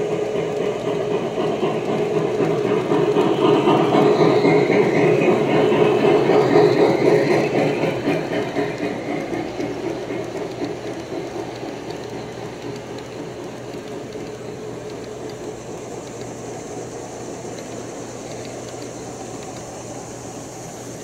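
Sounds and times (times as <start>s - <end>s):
model train cars rolling: 0.0s - 21.0s
wheels clicking over rails: 0.0s - 21.0s.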